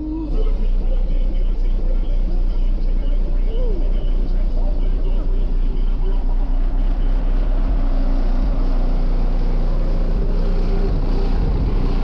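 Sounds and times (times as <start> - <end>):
loud subwoofer bass: 0.0 - 12.0.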